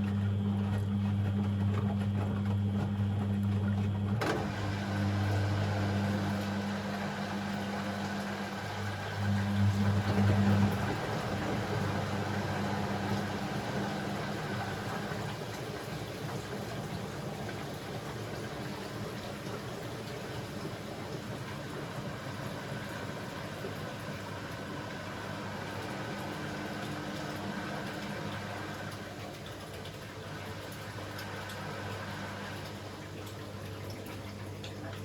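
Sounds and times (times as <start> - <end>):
washing machine low hum: 0.0 - 35.0
washing machine washing noise: 0.0 - 35.0.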